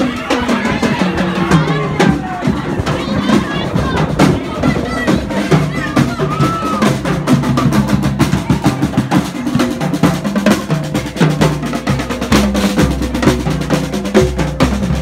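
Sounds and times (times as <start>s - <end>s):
snare and tenor drums: 0.0s - 15.0s.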